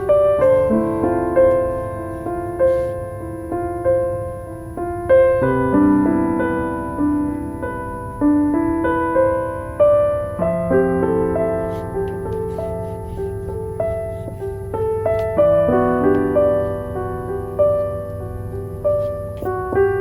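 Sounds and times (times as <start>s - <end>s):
soft slow piano music: 0.0s - 20.0s.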